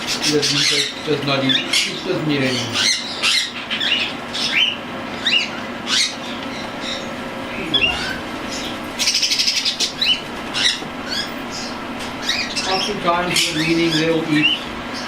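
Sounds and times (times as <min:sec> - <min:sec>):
cockatiels chirping: 0:00.0 - 0:15.0
harsh rattling bird call: 0:00.0 - 0:15.0.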